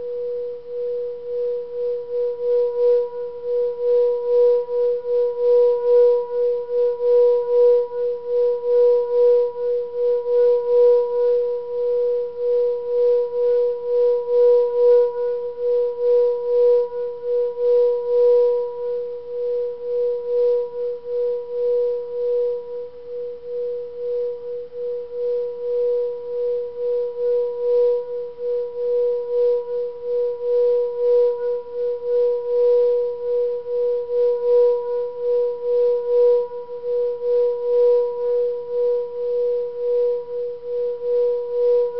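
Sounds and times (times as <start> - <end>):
singing bowl pulsing tone: 0.0 - 41.9.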